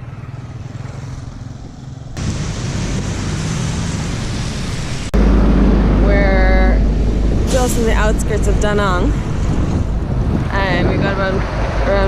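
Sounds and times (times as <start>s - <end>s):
road traffic noise: 0.0s - 12.0s
loud low rumble: 2.2s - 12.0s
rushing noise: 2.2s - 12.0s.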